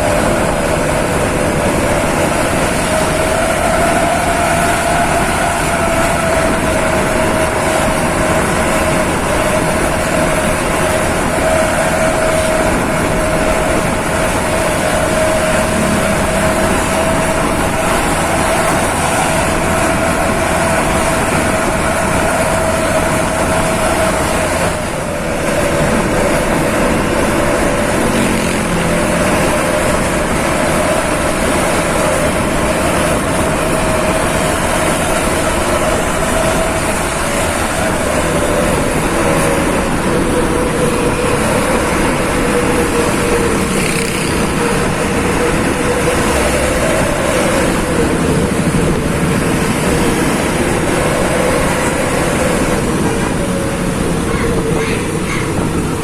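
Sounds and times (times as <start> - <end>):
bus engine and road noise: 0.0 - 56.0
constant whine: 0.0 - 56.0.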